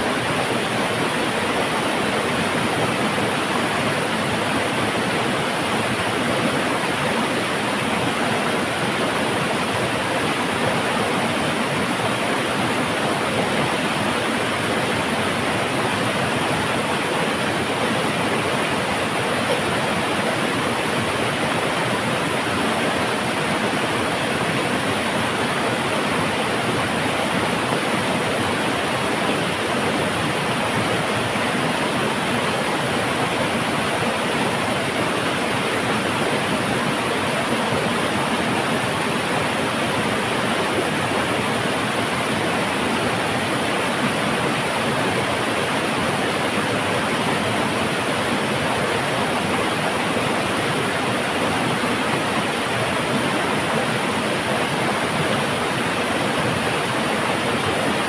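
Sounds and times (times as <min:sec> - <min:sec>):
river pouring over waterfall: 0:00.0 - 0:58.0.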